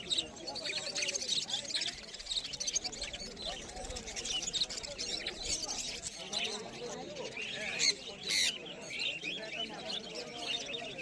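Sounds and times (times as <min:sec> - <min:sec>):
budgerigars chattering: 0:00.0 - 0:11.0
faint murmur of voices: 0:00.0 - 0:11.0.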